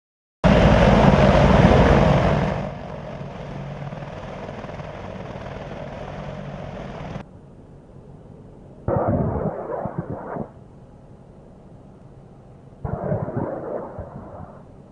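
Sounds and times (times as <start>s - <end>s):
helicopter rotor and engines: 0.4s - 14.9s.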